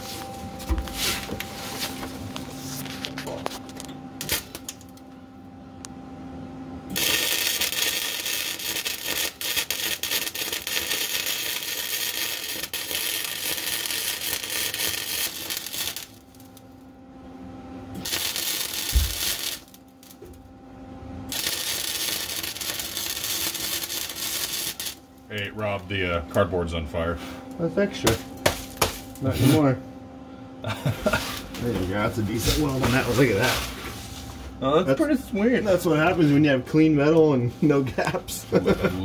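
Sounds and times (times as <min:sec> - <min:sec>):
welder crackling sizzle: 0:00.0 - 0:05.2, 0:06.9 - 0:16.9, 0:17.9 - 0:29.8, 0:30.7 - 0:39.0.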